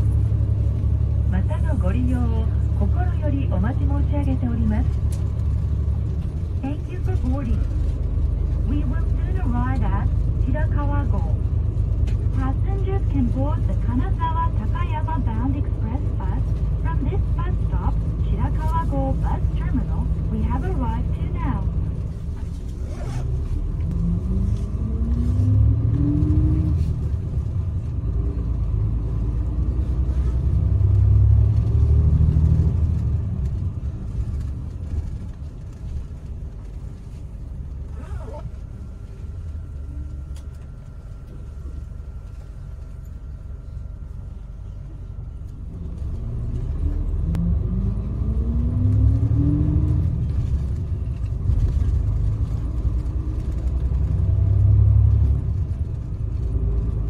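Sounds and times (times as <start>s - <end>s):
bus engine and road rumble: 0.0s - 57.0s
rising engine whine: 0.0s - 57.0s.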